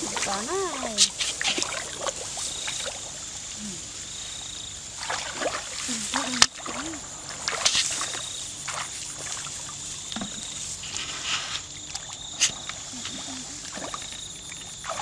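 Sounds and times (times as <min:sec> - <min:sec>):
feet wading through shallow water: 0:00.0 - 0:03.4, 0:04.8 - 0:10.9, 0:11.6 - 0:15.0.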